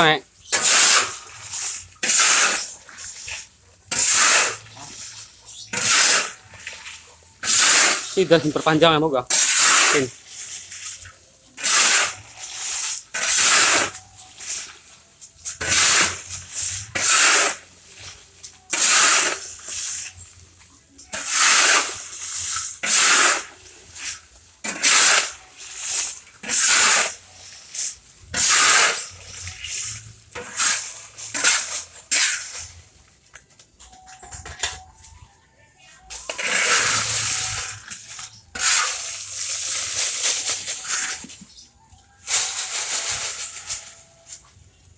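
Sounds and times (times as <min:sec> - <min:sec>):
sand stirred and tossed: 0:00.0 - 0:20.4, 0:21.2 - 0:32.8, 0:36.2 - 0:41.6, 0:42.2 - 0:44.6.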